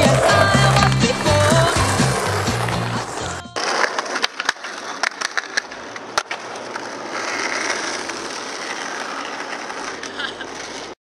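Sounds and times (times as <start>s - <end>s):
skateboard clacks: 0.0s - 11.0s
skateboard wheels rolling on asphalt: 0.0s - 11.0s.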